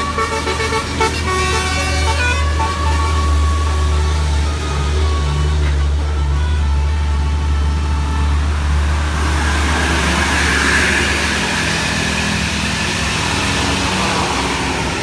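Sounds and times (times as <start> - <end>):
bus diesel engine rumbling: 0.0 - 15.0
passing traffic tyre rush: 0.0 - 15.0.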